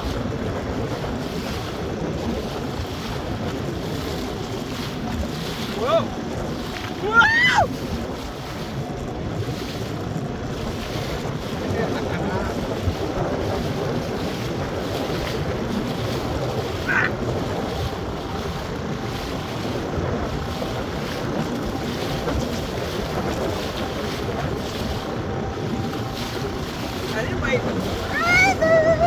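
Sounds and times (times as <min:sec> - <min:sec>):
waves slapping boat hull: 0:00.0 - 0:29.0
wind buffeting microphone: 0:00.0 - 0:29.0.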